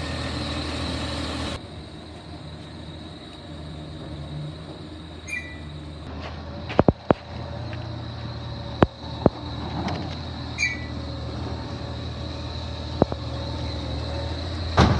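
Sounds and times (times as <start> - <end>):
garbage truck engine running: 0.0 - 14.9.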